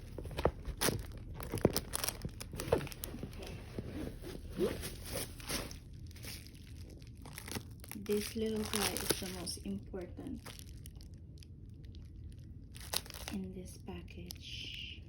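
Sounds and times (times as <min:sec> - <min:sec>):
packing material crinkling: 0:00.0 - 0:13.5
steady low hum: 0:00.0 - 0:15.0.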